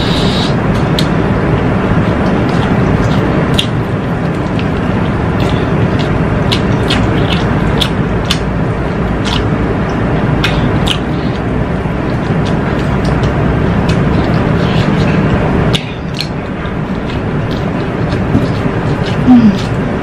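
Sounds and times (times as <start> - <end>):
chewing and lip-smacking: 0.7 - 20.0.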